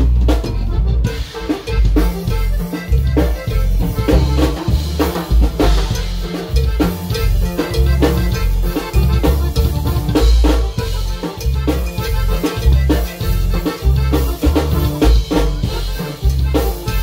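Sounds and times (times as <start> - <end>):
loud dance music: 0.0 - 17.0.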